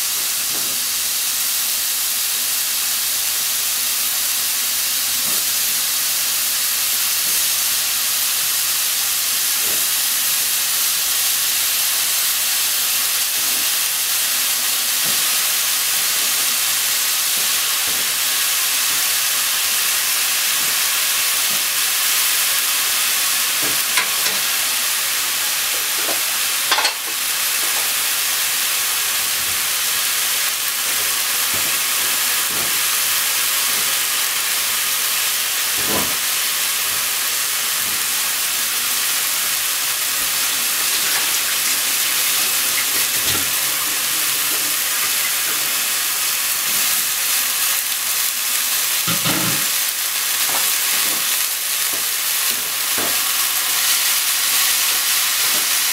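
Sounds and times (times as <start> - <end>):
mushrooms sizzling in oil: 0.0 - 55.9.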